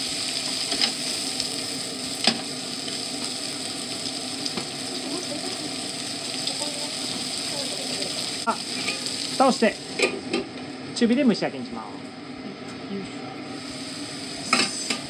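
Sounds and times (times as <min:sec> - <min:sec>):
food sizzling in a frying pan: 0:00.0 - 0:11.3, 0:12.0 - 0:15.0.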